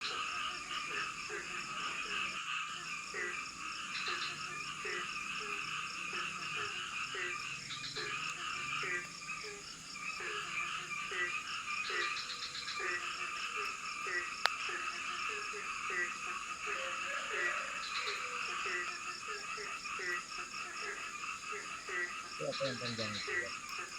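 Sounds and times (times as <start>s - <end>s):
chorus of frogs and insects: 0.0s - 23.9s
frog croaking low: 0.0s - 23.9s.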